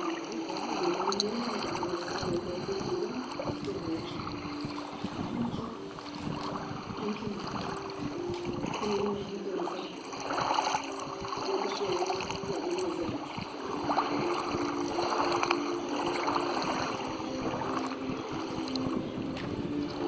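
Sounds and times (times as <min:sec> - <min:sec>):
low hum of held tones: 0:00.0 - 0:20.0
water splashing and lapping: 0:00.0 - 0:20.0.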